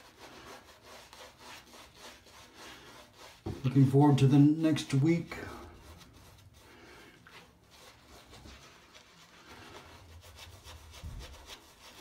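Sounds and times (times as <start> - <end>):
shaving brush strokes on stubble: 0.0 - 12.0.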